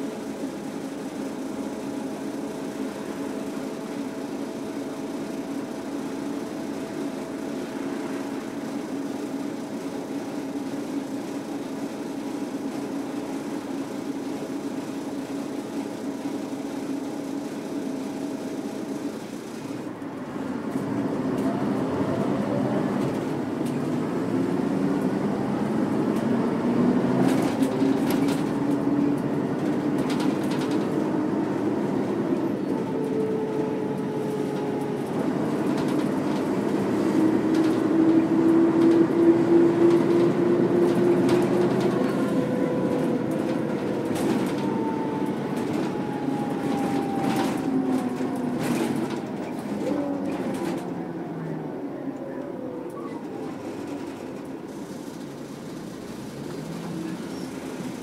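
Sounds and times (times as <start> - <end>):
bus diesel engine and gearbox whining: 0.0 - 58.0.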